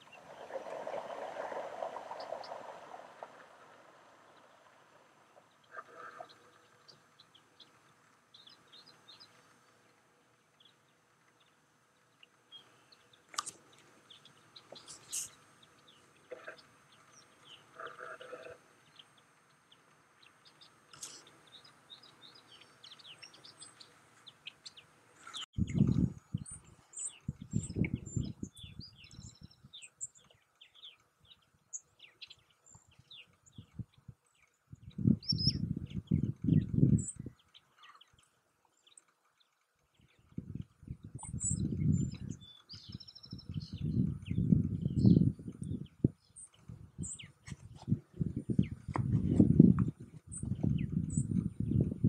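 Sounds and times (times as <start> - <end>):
birds chirping and peeping: 0.0 - 52.0.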